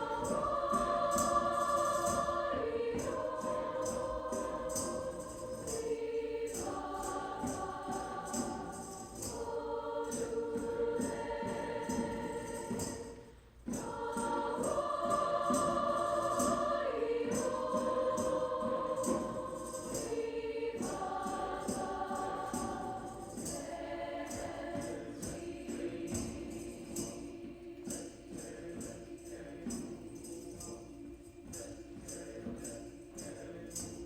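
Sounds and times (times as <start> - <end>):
choir singing held notes: 0.0 - 34.0
light steady beat: 0.0 - 34.0.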